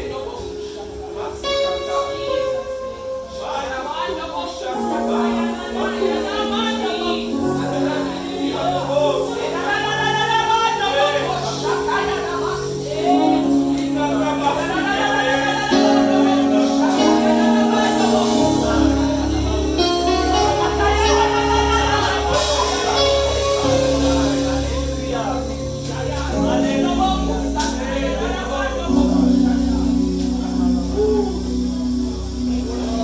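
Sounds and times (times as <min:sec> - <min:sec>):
instrumental backing: 0:00.0 - 0:33.0
voices singing gospel song: 0:00.0 - 0:33.0
deep bass: 0:04.8 - 0:33.0.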